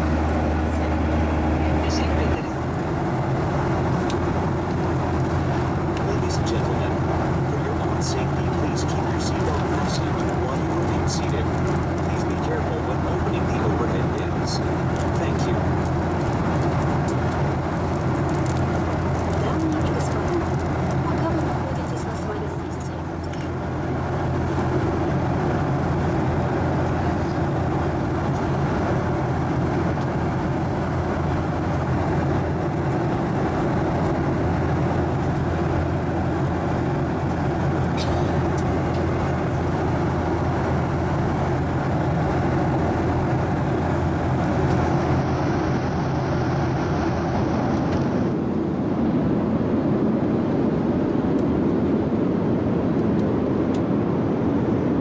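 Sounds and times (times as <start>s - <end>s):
low hum: 0.0s - 48.4s
airliner cabin engine and airflow noise: 0.0s - 55.0s.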